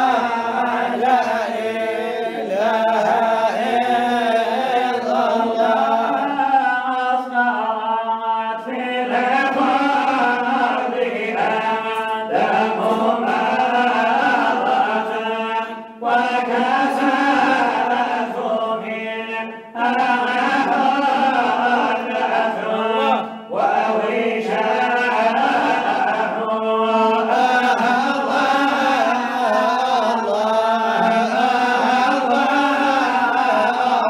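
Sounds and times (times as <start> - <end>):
men chanting devotional song: 0.0 - 34.0.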